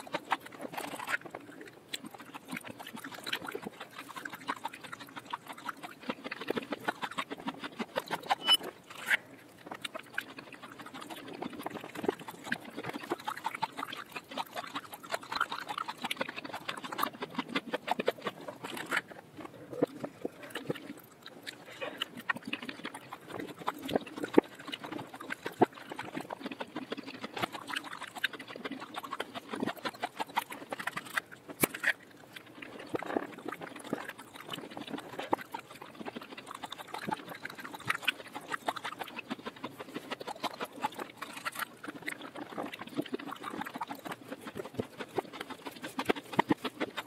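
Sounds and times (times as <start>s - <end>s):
mouth clicks and smacks chewing: 0.0s - 47.0s.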